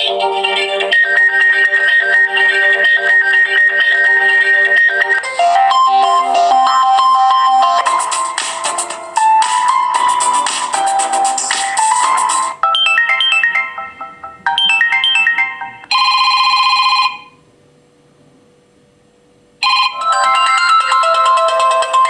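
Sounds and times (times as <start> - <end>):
electronic ringtone melody: 0.0 - 17.4, 19.6 - 22.0.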